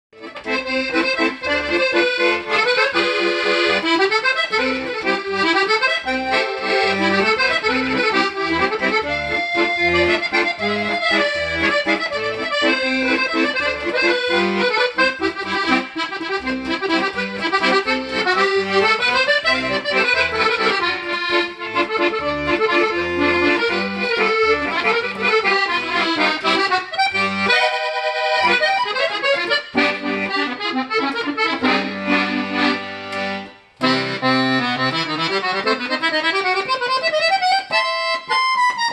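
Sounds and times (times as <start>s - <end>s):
accordion melody and chords: 0.1s - 38.9s
accordion bass rhythm: 0.2s - 38.9s.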